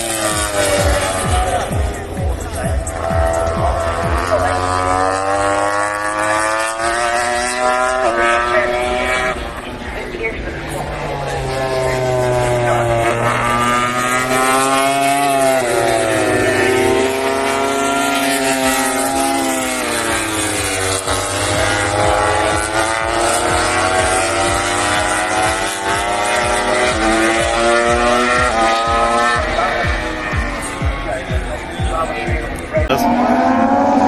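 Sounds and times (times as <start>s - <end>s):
exhaust popping: 0.0s - 34.0s
racing motorcycles at speed: 0.0s - 34.0s.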